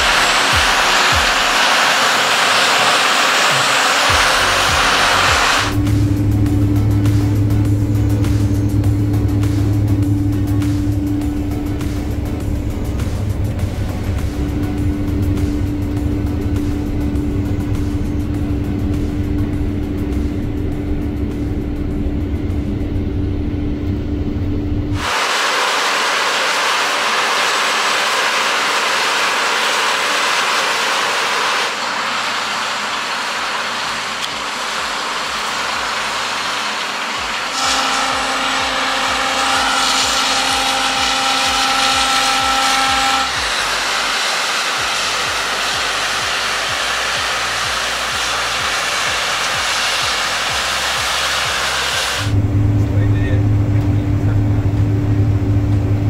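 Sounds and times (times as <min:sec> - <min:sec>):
low droning hum in cab: 0:00.0 - 0:25.1, 0:31.7 - 0:56.0
combine harvester rushing noise: 0:00.0 - 0:56.0
steady machine whine: 0:00.0 - 0:56.0.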